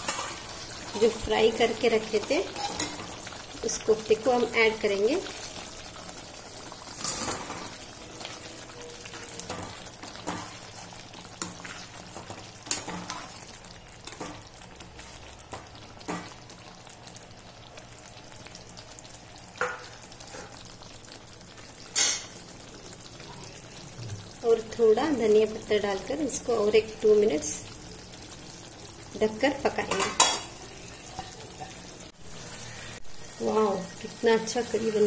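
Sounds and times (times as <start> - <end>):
curry simmering and sizzling: 0.0 - 35.0.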